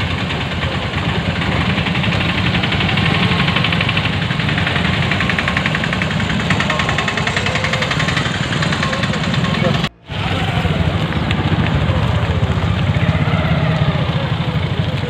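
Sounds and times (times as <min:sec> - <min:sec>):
engine idling: 0:00.0 - 0:15.0
traffic creeping past: 0:00.0 - 0:15.0.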